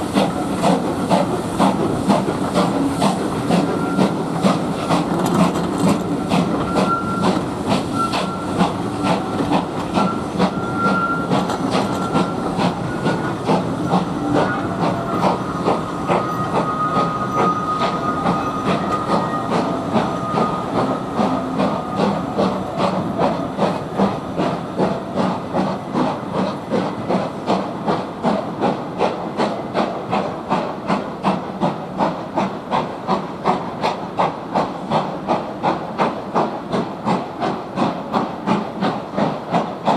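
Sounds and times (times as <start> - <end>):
steam hissing: 0.0 - 39.9
steam locomotive chuffing: 0.0 - 39.9.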